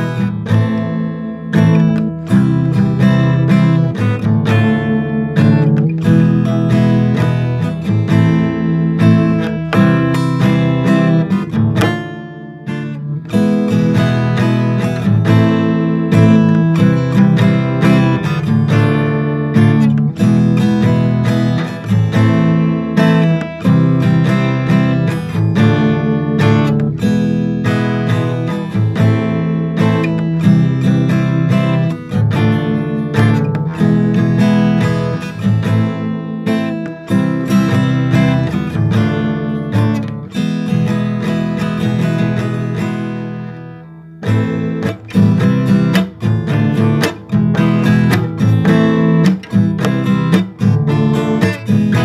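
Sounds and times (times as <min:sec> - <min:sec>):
acoustic guitar strumming and plucking: 0:00.0 - 0:52.0.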